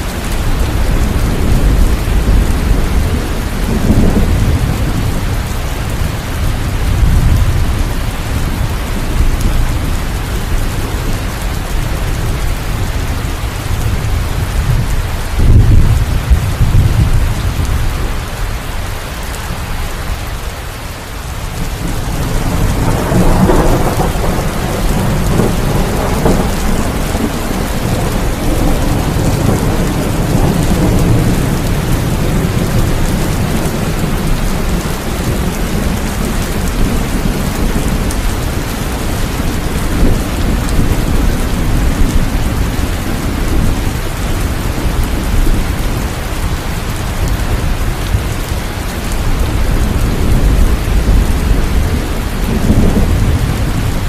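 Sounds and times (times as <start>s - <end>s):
rolling thunder: 0.0s - 18.3s, 21.5s - 54.0s
heavy rain: 0.0s - 54.0s.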